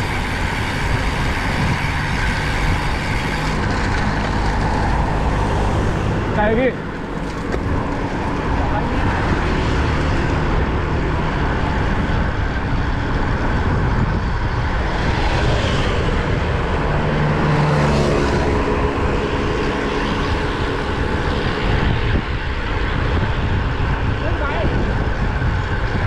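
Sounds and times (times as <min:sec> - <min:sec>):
motor vehicle engine passing: 0:00.0 - 0:25.7
wind rushing on microphone: 0:00.0 - 0:26.0.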